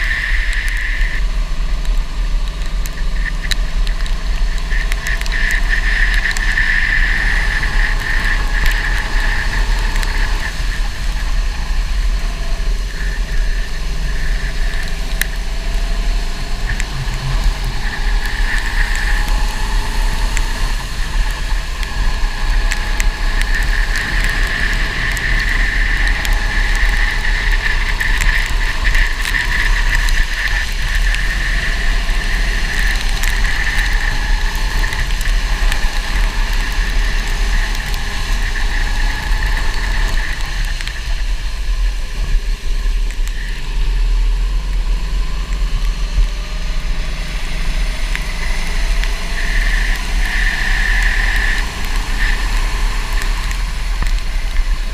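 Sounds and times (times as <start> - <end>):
go-kart engine whine and rumble: 0.0 - 54.9.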